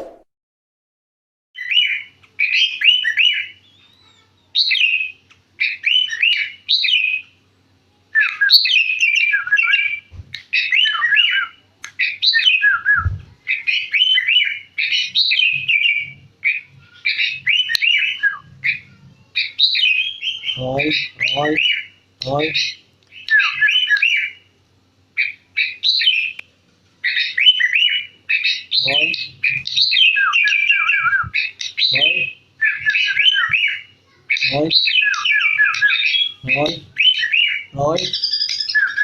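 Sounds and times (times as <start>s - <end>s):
bird singing whistled phrases: 1.6s - 7.3s, 8.1s - 24.4s, 25.2s - 26.4s, 27.0s - 39.0s.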